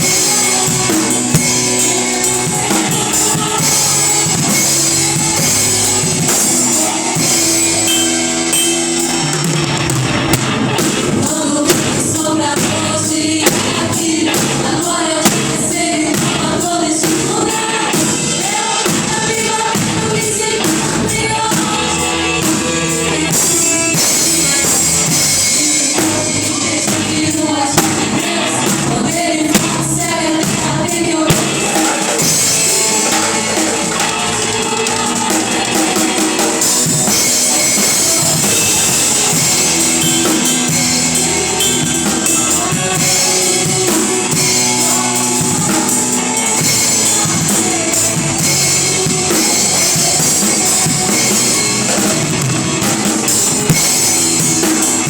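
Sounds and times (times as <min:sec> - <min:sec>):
band playing gospel music: 0:00.0 - 0:55.0
voices singing: 0:00.0 - 0:55.0.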